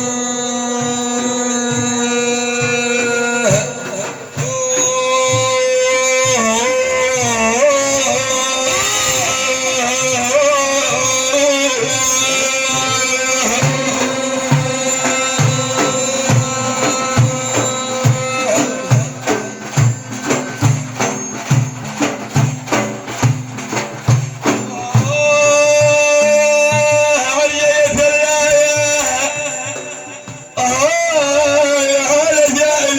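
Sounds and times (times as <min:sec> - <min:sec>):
drum beat: 0:00.0 - 0:32.9.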